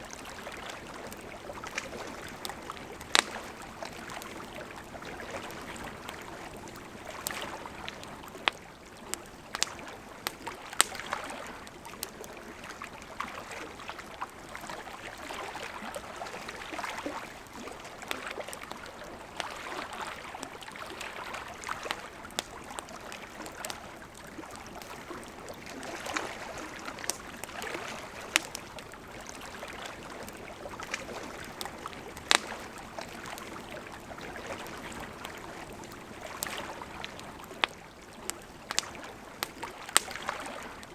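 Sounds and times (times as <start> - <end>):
campfire crackling and popping: 0.0 - 40.9
river flowing: 0.0 - 40.9.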